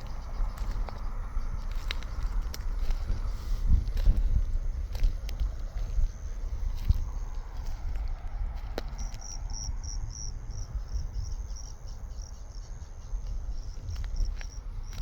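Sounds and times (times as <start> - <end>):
cricket chirping: 0.0 - 15.0
steady low rumble: 0.0 - 15.0.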